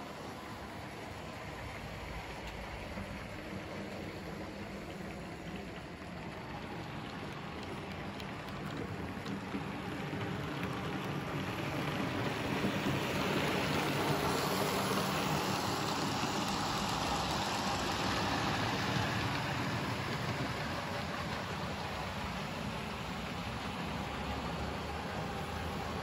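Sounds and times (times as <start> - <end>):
model train wheels rolling: 0.0 - 26.0.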